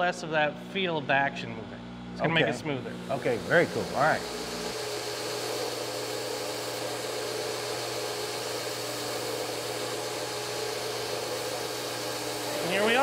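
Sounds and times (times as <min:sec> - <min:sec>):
belt grinder whirring: 0:02.4 - 0:13.0.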